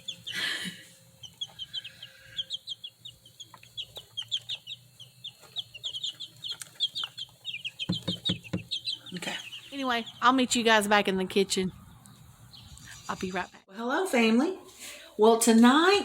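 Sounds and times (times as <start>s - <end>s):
chicks peeping: 0.0s - 13.5s.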